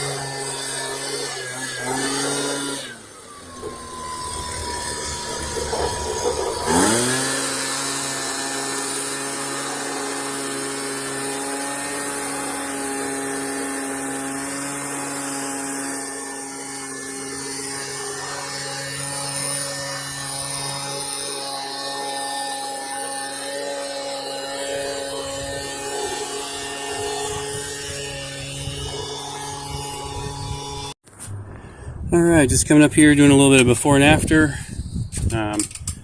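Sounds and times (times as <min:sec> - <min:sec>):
leaf blower running: 0:00.0 - 0:31.0.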